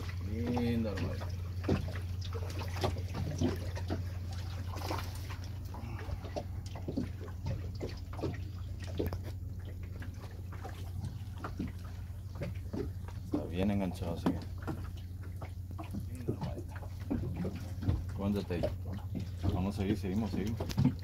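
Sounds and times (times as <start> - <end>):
small splashes and knocks: 0.0 - 21.0
steady low rumble: 0.0 - 21.0
water lapping against boat hull: 0.0 - 21.0.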